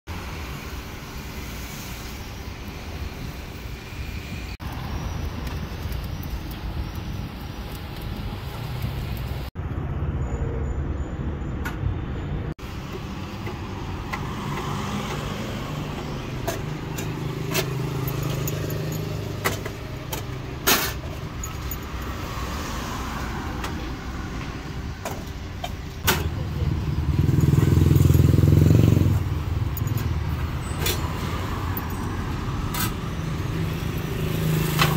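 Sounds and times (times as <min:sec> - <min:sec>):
roadside traffic: 0:00.0 - 0:34.9.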